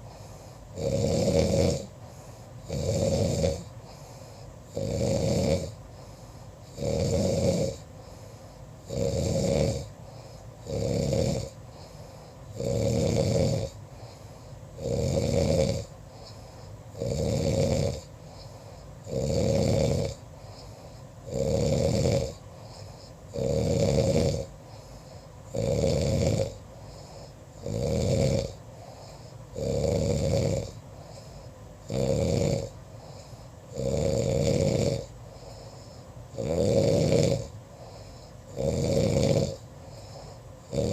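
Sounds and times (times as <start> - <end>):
person snoring: 0.0 - 40.9.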